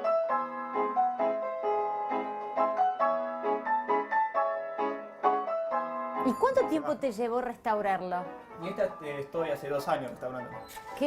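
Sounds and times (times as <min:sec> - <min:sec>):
player piano playing: 0:00.0 - 0:11.0.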